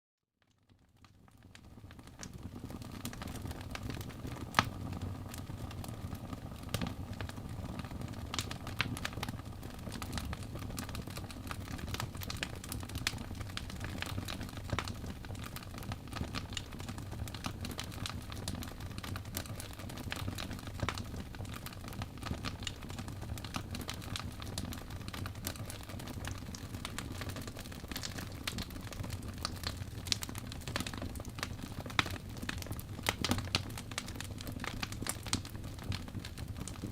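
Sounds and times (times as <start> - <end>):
fireplace fire crackling: 0.5 - 36.9.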